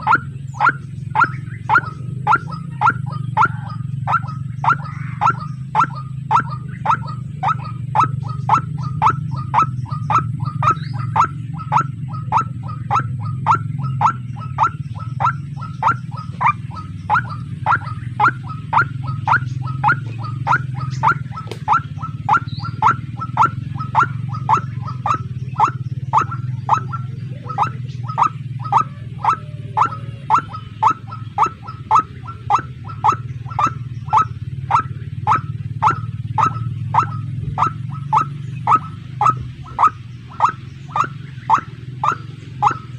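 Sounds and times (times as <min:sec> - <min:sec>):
steady low hum: 0:00.0 - 0:42.9
waterhen calling falling notes: 0:00.0 - 0:42.9.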